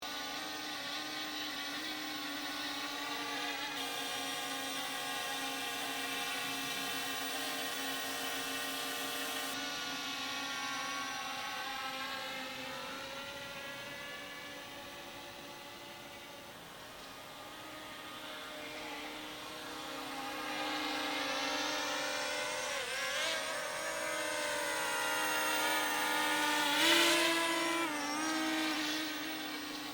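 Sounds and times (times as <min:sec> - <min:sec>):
drone propellers buzzing: 0:00.2 - 0:29.9.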